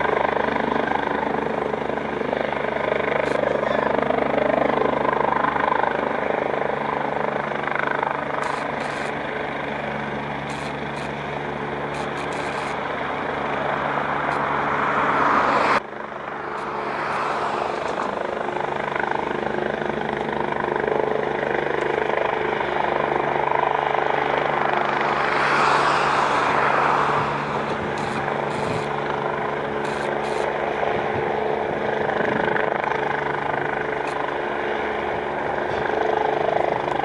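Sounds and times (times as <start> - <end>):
helicopter rotor and engine drone: 0.0 - 37.0.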